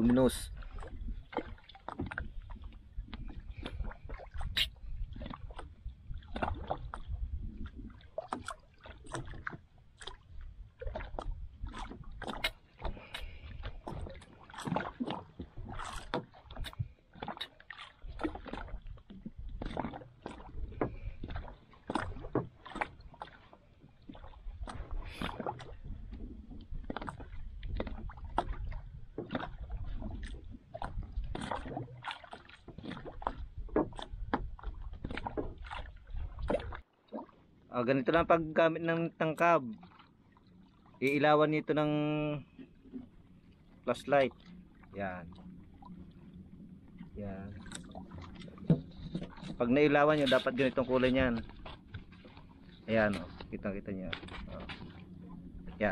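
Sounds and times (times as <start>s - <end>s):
water lapping against boat hull: 0.0s - 55.9s.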